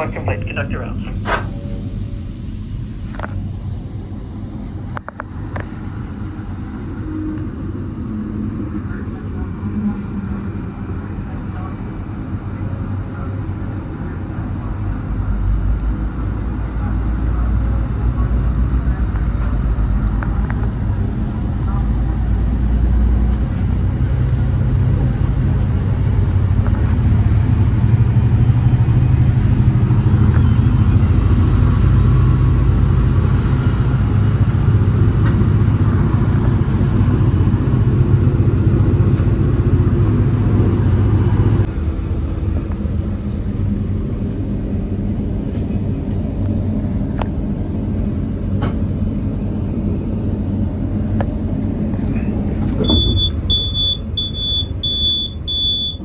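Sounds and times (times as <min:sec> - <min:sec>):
diesel train rumbling: 0:00.0 - 0:56.0.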